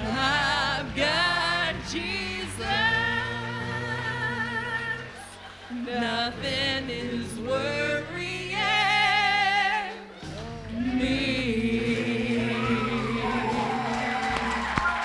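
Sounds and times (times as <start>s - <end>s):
vocal group singing gospel harmony: 0.0s - 15.0s.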